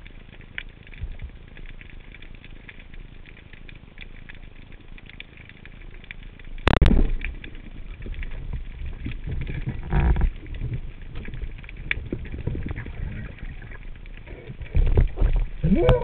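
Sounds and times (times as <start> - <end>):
underwater crackle of clicks: 0.0 - 16.0.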